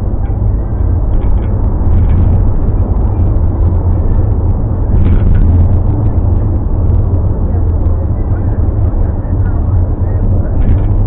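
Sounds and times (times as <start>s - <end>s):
car driving rumble in cabin: 0.0s - 11.0s.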